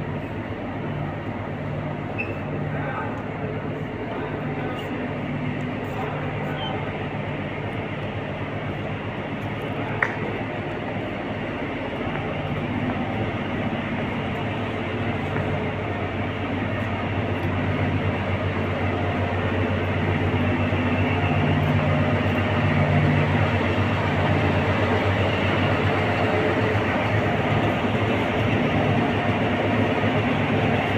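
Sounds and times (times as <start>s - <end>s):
diesel train engine idling: 0.0s - 30.9s.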